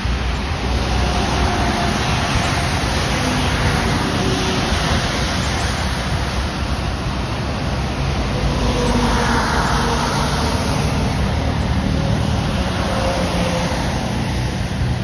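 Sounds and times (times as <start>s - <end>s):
trucks passing close by: 0.0s - 15.0s.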